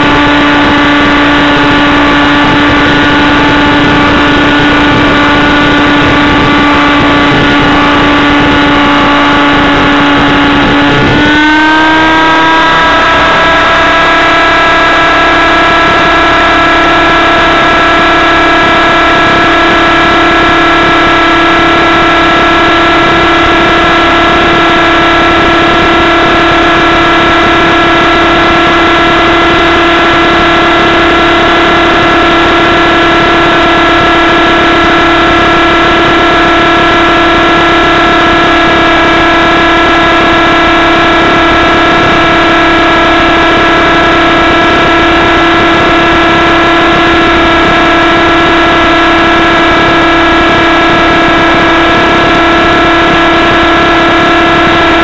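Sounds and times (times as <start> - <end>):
model helicopter engine and rotor: 0.0 - 55.0.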